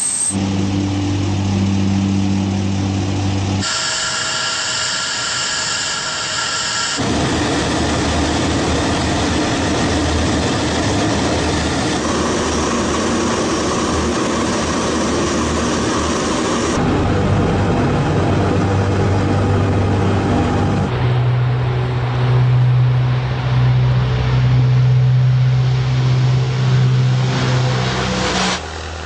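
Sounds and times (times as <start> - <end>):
propeller engine drone: 0.0 - 29.0
turbine whine: 0.0 - 29.0.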